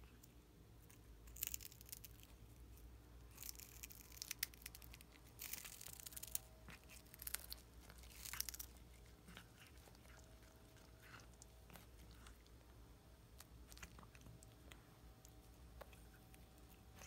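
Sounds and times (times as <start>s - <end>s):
cat crunching dried fish: 0.9s - 17.0s.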